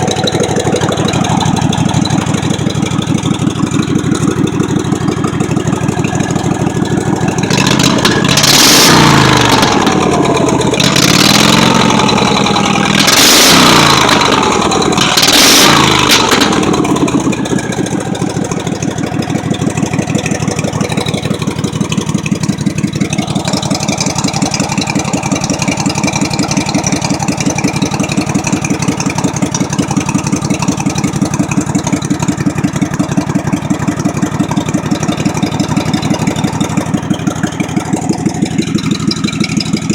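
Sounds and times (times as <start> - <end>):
lawn mower engine revving: 0.0 - 39.9.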